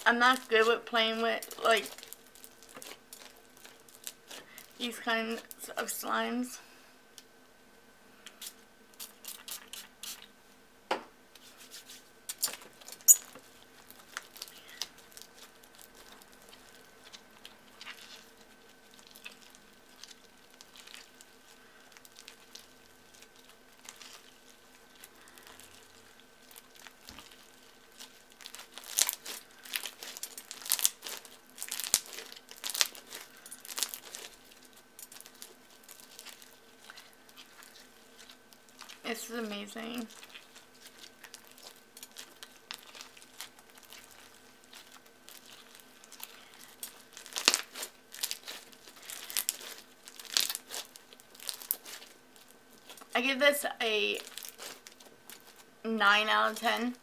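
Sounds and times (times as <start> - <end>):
slime squishing with sticky crackles: 0.0 - 6.6, 8.2 - 10.4, 11.4 - 57.0.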